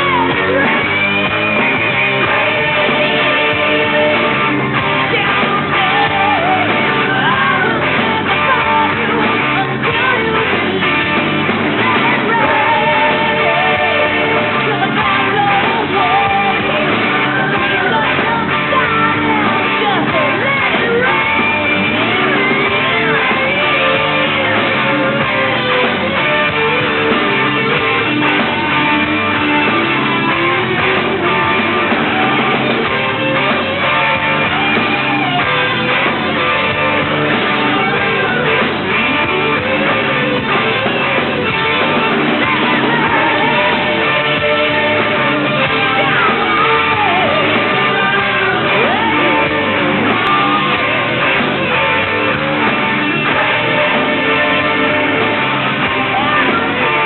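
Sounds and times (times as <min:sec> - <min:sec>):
hard rock band playing: 0:00.0 - 0:57.0.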